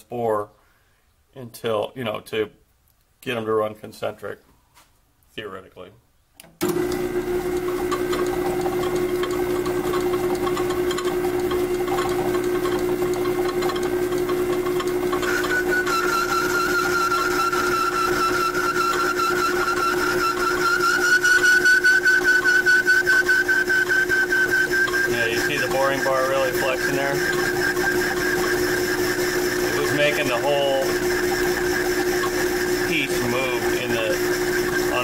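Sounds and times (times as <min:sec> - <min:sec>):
high whine of cutting tool: 0:06.6 - 0:35.0
lathe humming: 0:06.6 - 0:35.0.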